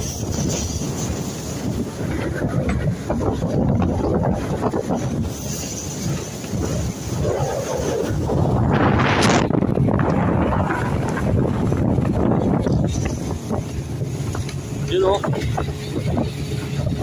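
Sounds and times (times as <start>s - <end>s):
water rushing from moving boat: 0.0s - 17.0s
wind buffeting microphone: 0.0s - 17.0s.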